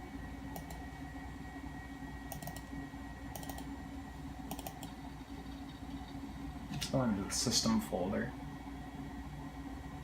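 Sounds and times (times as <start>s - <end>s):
low computer hum: 0.0s - 10.0s.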